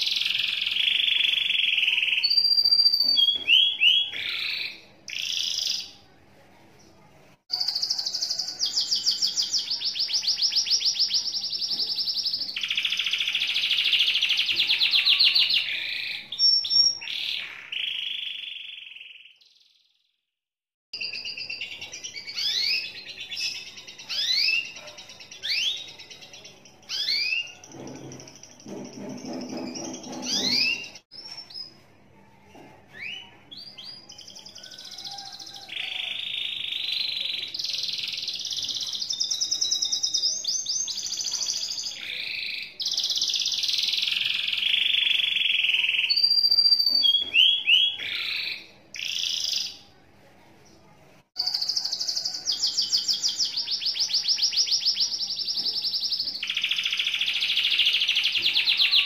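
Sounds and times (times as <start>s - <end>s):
canary singing chirps and trills: 0.0s - 6.2s, 6.8s - 20.1s, 21.0s - 50.0s, 50.6s - 59.0s.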